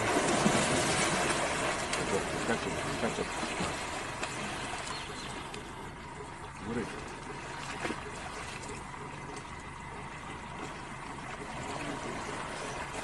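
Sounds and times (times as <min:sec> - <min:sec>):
water splash: 0:00.0 - 0:05.8, 0:06.6 - 0:13.0
faint steady hum: 0:00.0 - 0:13.0
water noise: 0:00.0 - 0:13.0.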